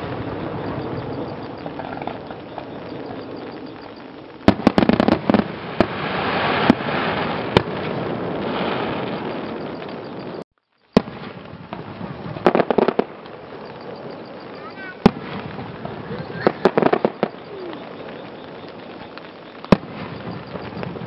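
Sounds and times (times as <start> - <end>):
firework shells bursting: 0.0 - 21.0.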